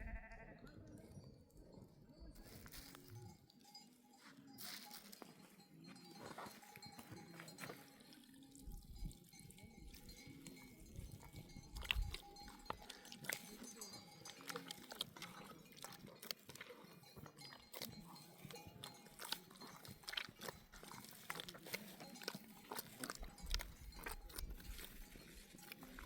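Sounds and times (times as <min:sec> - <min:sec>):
sheep bells clinking: 0:00.8 - 0:26.0
sheep chewing grass: 0:02.4 - 0:26.0.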